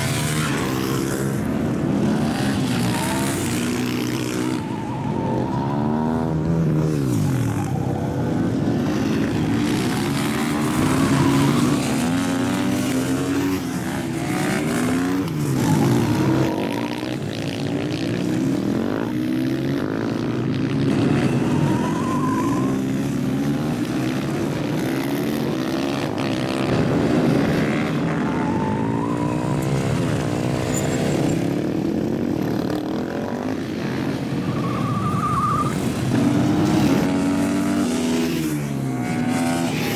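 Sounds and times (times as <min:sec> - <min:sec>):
racing motorcycles revving: 0:00.0 - 0:39.9.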